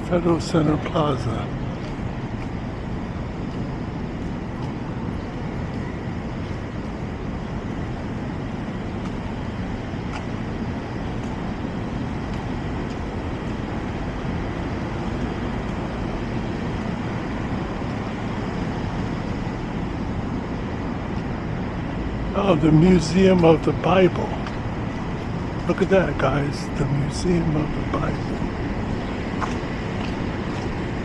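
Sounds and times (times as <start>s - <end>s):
cars passing on street: 0.0s - 31.0s.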